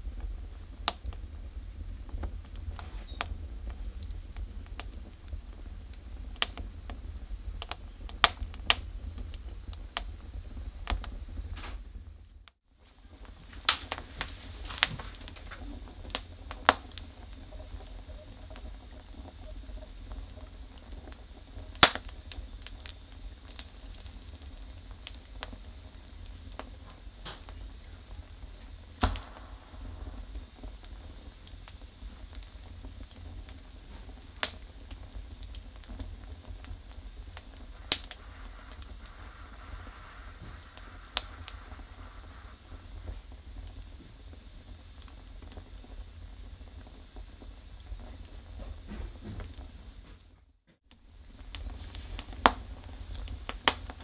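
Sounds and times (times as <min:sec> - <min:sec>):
steady low rumble: 0:00.0 - 0:50.0
faint hiss: 0:00.0 - 0:54.0
firewood crackling and popping: 0:00.0 - 0:54.0.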